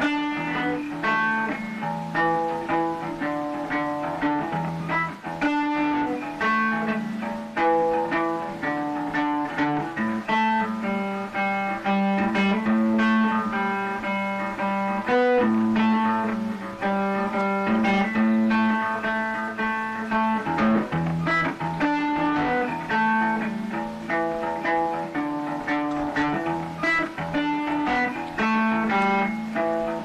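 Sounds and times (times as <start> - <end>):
instrumental background music: 0.0 - 30.0.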